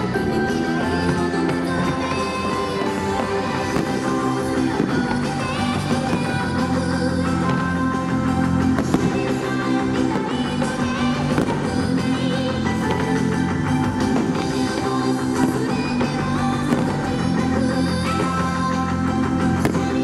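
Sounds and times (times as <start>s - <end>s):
rock song over loudspeakers: 0.0s - 20.0s.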